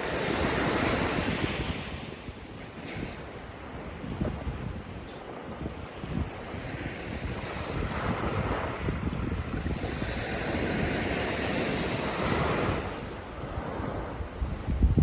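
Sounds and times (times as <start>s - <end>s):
ocean waves breaking on shore: 0.0s - 15.0s
wind rumble on microphone: 0.0s - 15.0s.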